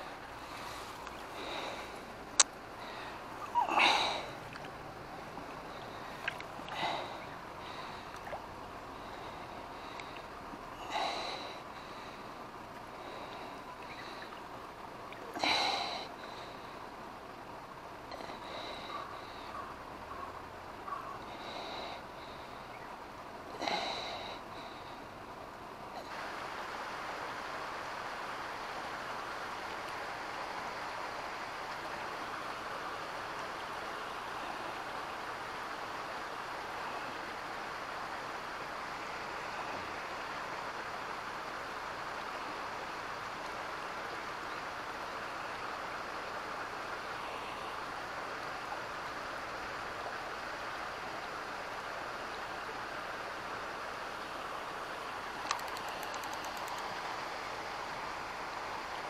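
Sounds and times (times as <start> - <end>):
flowing river water: 0.0 - 59.0.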